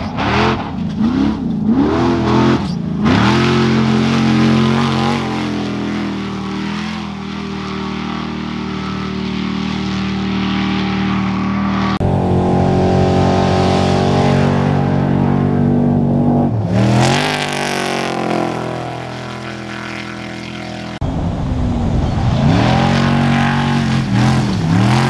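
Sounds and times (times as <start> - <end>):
race truck engine revving: 0.0 - 25.0.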